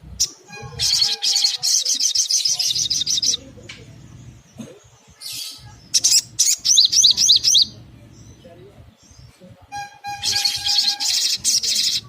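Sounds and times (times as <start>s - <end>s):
bird chipping calls: 0.2s - 12.0s.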